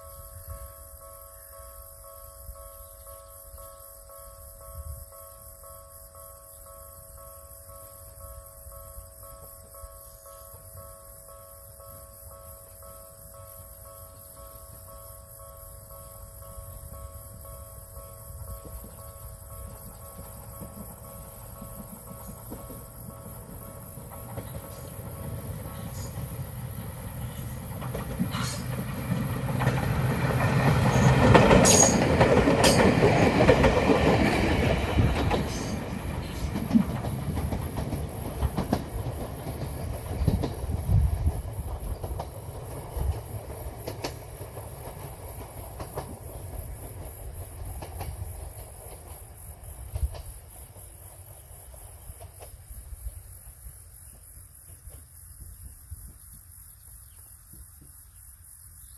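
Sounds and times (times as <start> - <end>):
electric train passing: 0.0 - 58.9
wheels clicking over rail joints: 6.7 - 58.4.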